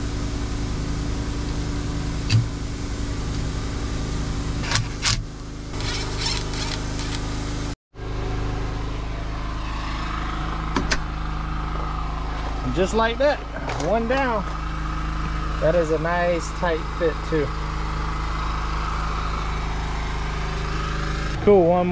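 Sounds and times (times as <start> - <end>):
engine droning: 0.0 - 21.9.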